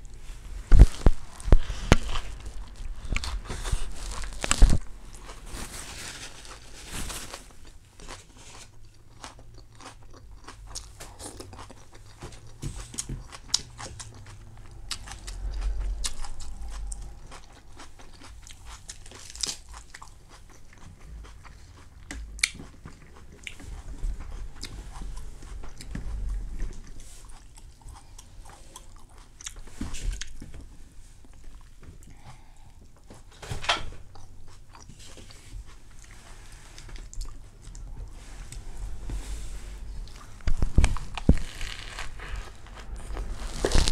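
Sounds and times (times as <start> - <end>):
person chewing crispy food: 0.0 - 30.6, 34.1 - 39.0, 39.8 - 43.9.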